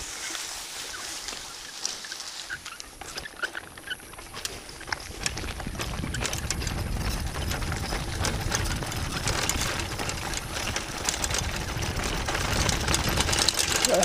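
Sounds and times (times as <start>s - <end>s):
bike rattling and rumbling: 0.0s - 14.0s
tyres crunching on gravel: 0.0s - 14.0s
bike clicks and knocks: 1.1s - 14.0s.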